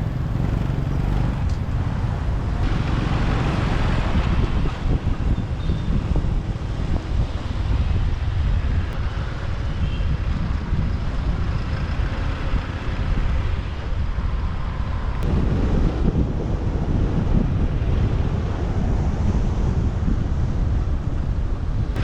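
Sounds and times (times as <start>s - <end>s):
motorbike engine rumble: 0.0s - 22.0s
traffic noise: 0.0s - 22.0s
wind buffeting microphone: 0.0s - 22.0s.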